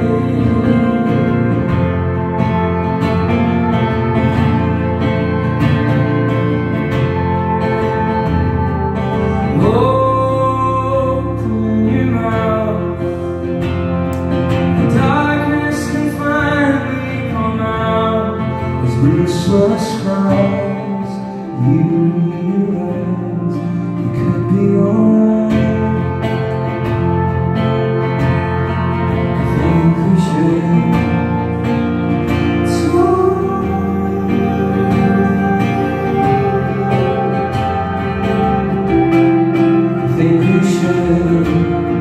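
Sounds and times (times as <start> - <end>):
man singing: 0.0 - 2.9, 9.1 - 13.9, 14.7 - 42.0
live band playing: 0.0 - 42.0.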